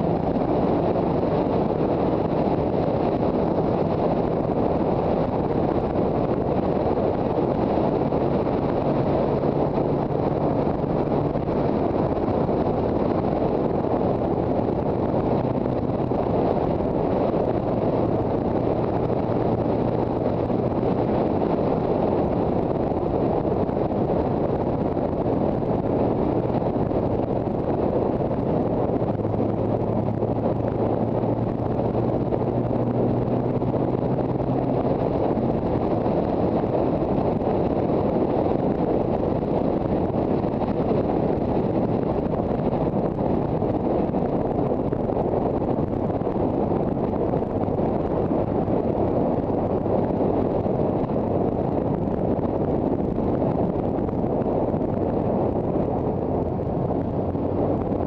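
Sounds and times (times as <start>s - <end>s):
two-stroke motorcycle engine drone: 0.0s - 58.0s
wind buffeting microphone: 0.0s - 58.0s.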